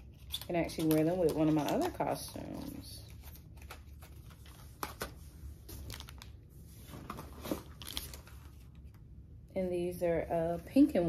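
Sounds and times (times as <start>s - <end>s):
packaging rustling and crinkling: 0.0s - 9.0s.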